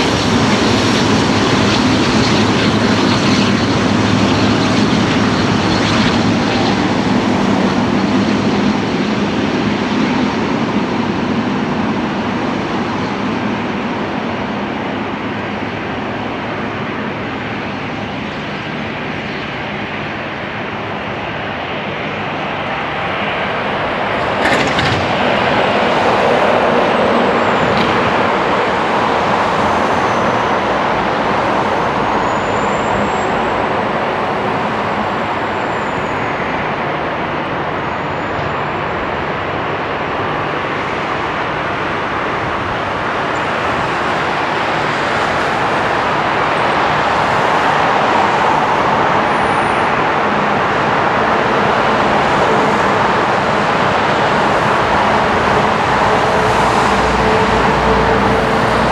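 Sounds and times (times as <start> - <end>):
jet engines roaring: 0.0 - 58.9.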